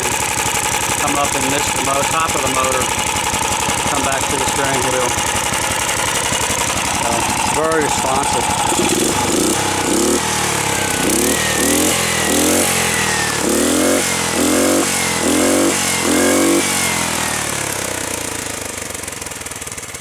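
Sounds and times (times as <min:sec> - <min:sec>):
small engine revving: 0:00.0 - 0:20.0.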